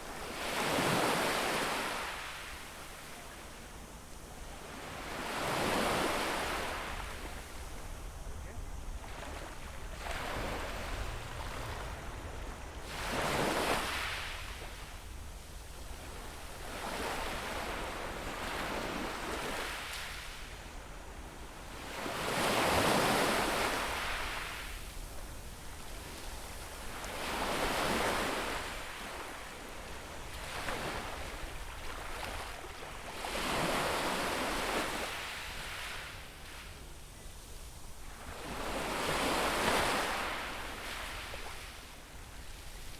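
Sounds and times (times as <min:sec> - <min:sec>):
small waves breaking on beach: 0:00.0 - 0:42.9.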